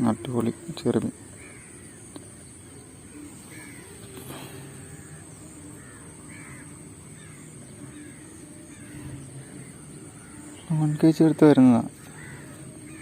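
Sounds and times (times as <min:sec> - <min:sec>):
birds calling: 0:00.0 - 0:13.0
high hiss: 0:00.0 - 0:13.0
steady low hum: 0:00.0 - 0:13.0.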